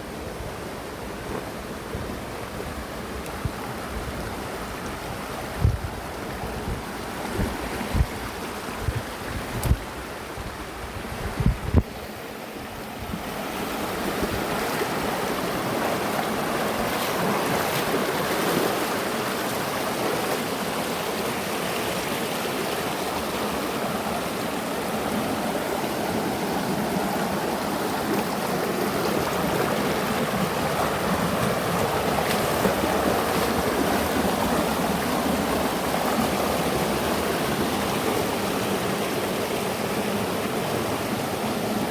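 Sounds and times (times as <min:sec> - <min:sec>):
river water rushing: 0:00.0 - 0:11.2, 0:11.9 - 0:41.9.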